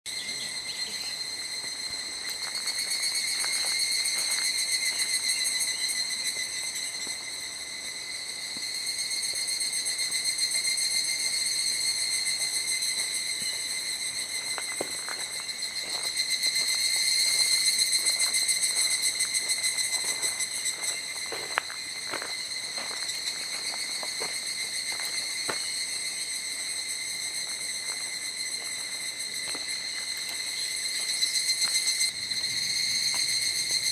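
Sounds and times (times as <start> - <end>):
insects trilling: 0.1 - 33.9.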